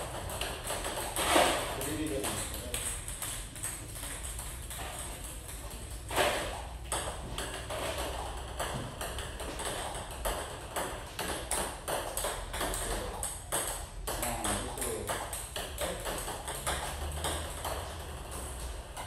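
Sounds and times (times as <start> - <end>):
table tennis ball clicking: 0.0 - 19.0.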